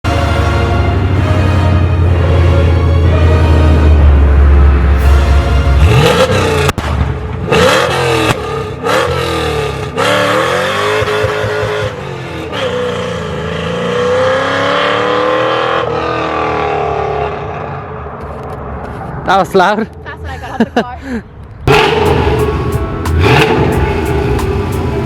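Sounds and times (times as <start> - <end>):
loud exhaust: 0.1 - 18.1, 21.6 - 25.0
car engine revving: 0.7 - 19.1, 21.6 - 25.0.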